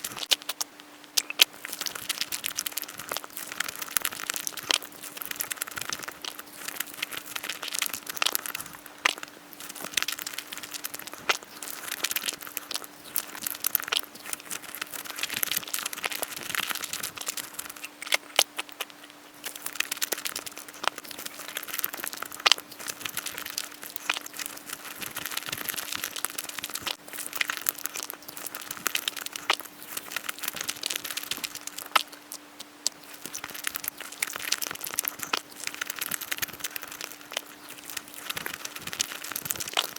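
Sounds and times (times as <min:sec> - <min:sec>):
chewing mouth noises: 0:00.0 - 0:39.9.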